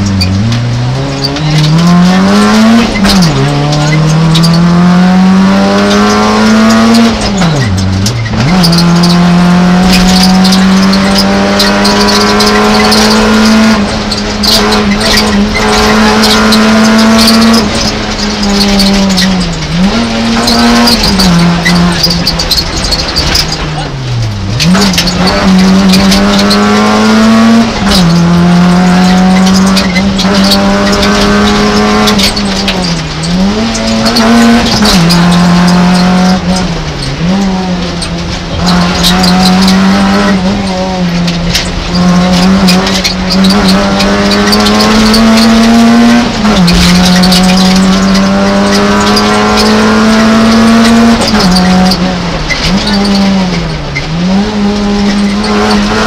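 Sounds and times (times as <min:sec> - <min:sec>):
rally car engine at high revs: 0:00.0 - 0:56.0.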